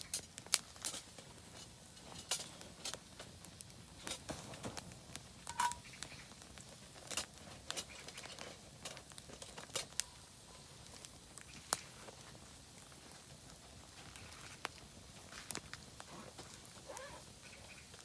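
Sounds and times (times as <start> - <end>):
campfire crackling and popping: 0.0 - 18.0
faint steady hiss: 0.0 - 18.0.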